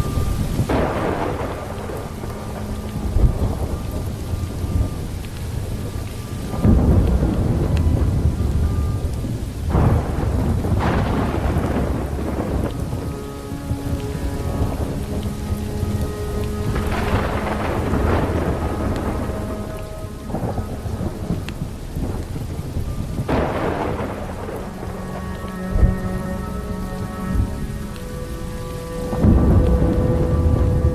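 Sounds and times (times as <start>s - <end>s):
heavy rain: 0.0s - 30.9s
rolling thunder claps: 0.0s - 30.9s
slowed reverberant music: 0.0s - 30.9s.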